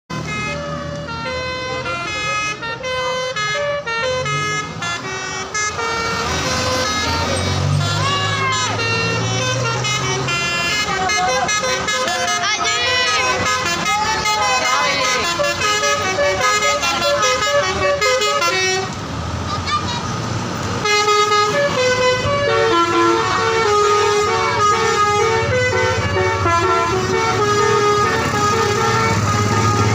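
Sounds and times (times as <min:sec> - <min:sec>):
multi-tone bus horn tune: 0:00.1 - 0:19.0, 0:20.8 - 0:29.9
bus engine running: 0:00.1 - 0:29.9.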